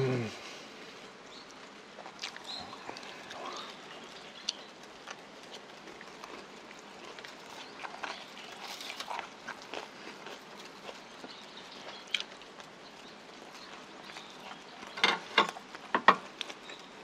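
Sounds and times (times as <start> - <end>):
person chewing food: 1.3 - 17.0.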